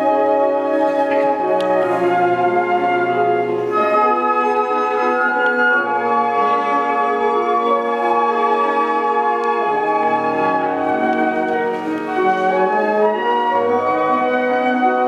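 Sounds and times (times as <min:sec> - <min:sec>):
flute ensemble playing chords: 0:00.0 - 0:15.0.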